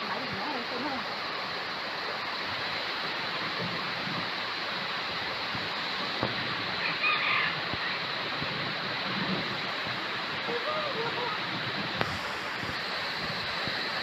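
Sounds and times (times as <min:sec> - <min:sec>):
rain falling on wet grass: 0:00.0 - 0:14.0.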